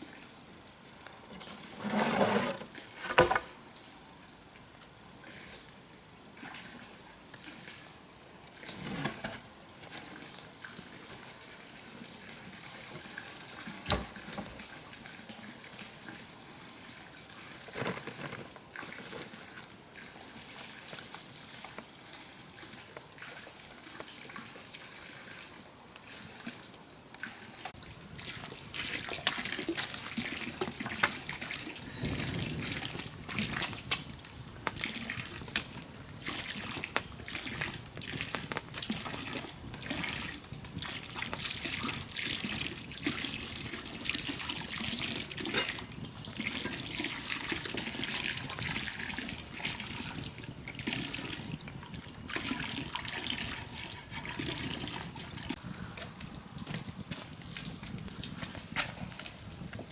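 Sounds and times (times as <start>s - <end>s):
water trickling and splashing: 0.0s - 8.8s, 9.7s - 59.9s.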